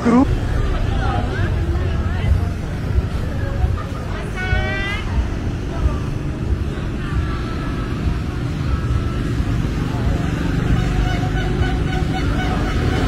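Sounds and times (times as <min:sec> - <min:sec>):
motor traffic: 0:00.0 - 0:13.0
people talking: 0:00.0 - 0:13.0.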